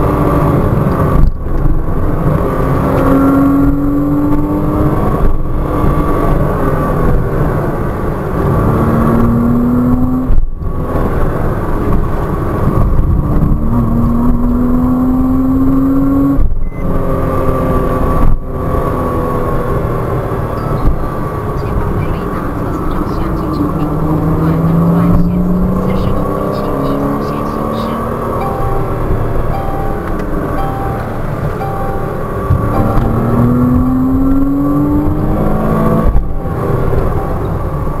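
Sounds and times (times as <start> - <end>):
car engine accelerating: 0.0 - 38.0
tyre and road noise: 0.0 - 38.0.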